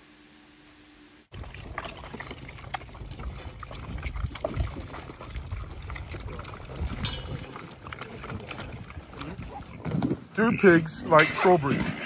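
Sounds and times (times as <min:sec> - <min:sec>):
pigs chomping and slurping: 0:01.3 - 0:12.0.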